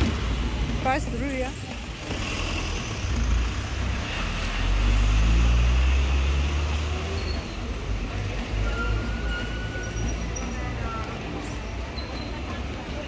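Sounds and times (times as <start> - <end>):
heavy vehicle engine rumbling: 0.0 - 13.0
roadway noise: 0.0 - 13.0.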